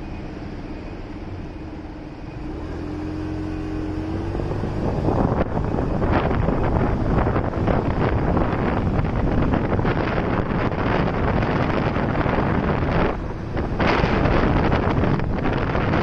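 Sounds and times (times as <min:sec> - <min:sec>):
motorcycle engine rumble: 0:00.0 - 0:16.0
wind buffeting microphone: 0:02.3 - 0:16.0.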